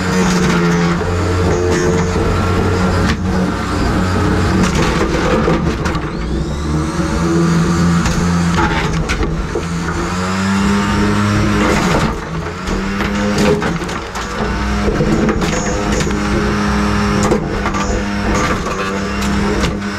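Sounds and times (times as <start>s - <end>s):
sharp hits and clattering plastic: 0.0s - 6.4s, 7.8s - 19.9s.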